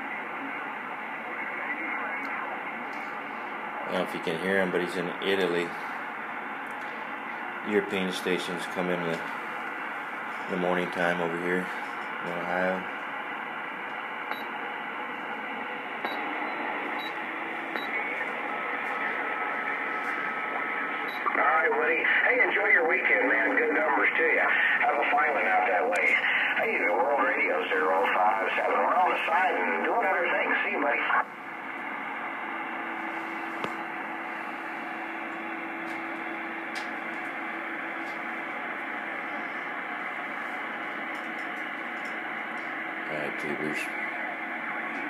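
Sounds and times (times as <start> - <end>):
faint distant radio station: 0.0 - 45.0
radio static: 0.0 - 45.0.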